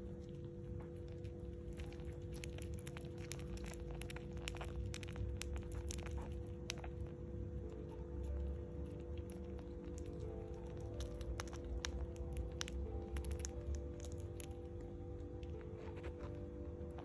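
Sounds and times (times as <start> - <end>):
rabbit kits suckling clicks: 0.0 - 17.0
steady low hum: 0.0 - 17.0.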